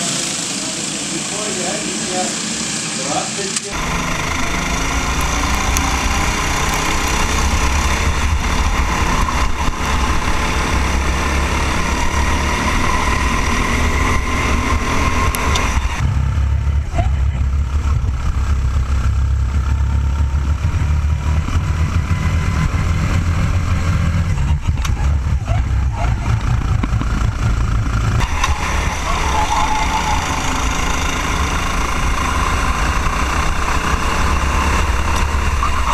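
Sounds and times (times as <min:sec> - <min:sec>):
go-kart engines running hard: 0:00.0 - 0:35.9
low engine drone: 0:00.0 - 0:35.9.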